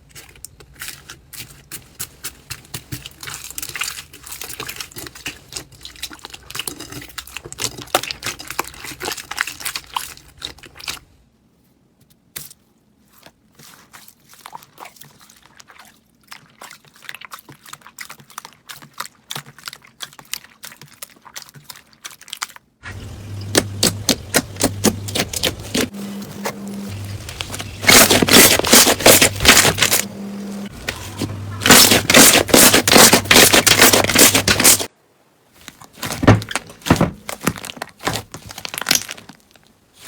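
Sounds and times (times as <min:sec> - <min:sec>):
slime squishing: 0:00.0 - 0:11.2, 0:12.3 - 0:34.9, 0:35.6 - 0:40.0.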